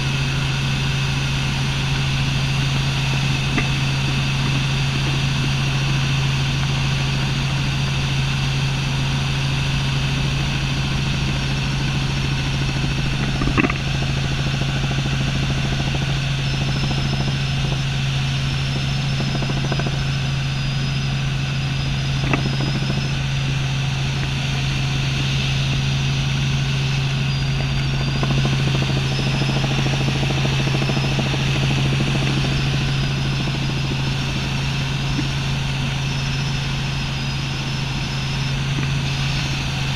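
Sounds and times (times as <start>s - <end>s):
faint wavering high whine: 0.0s - 39.9s
helicopter engine and rotors drone: 0.0s - 39.9s.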